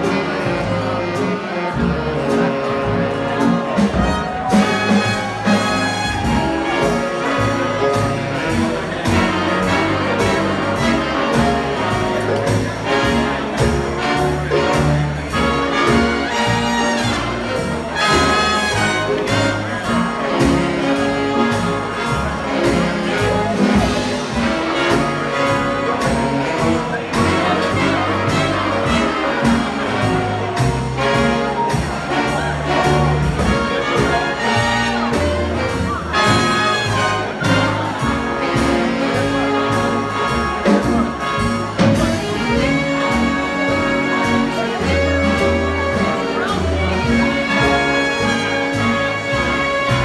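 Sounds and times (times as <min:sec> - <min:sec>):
swing big band playing: 0:00.0 - 0:50.0.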